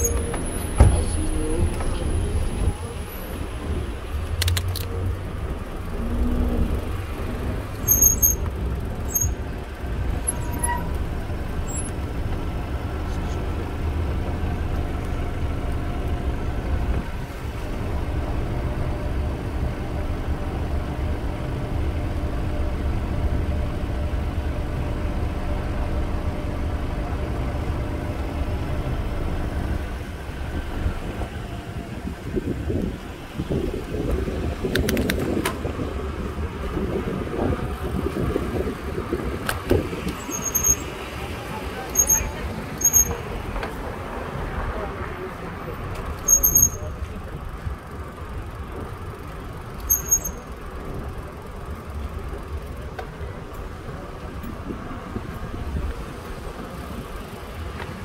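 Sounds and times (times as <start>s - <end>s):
car engines idling: 0.0s - 58.0s.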